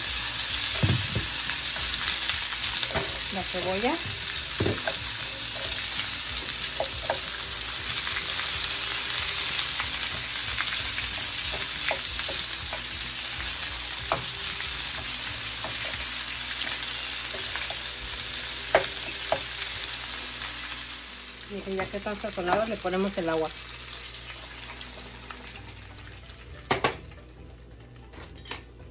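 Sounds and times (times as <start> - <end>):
food sizzling in oil: 0.0 - 27.3.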